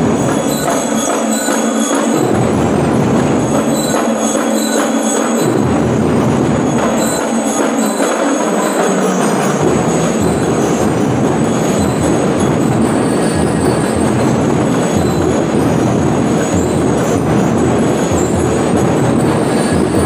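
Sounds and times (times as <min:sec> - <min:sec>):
dense continuous drumming: 0:00.0 - 0:20.0
high ringing notes: 0:00.0 - 0:20.0.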